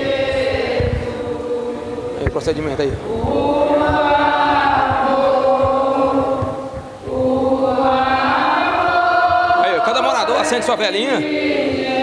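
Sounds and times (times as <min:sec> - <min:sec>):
voices singing a slow chant: 0:00.0 - 0:12.0.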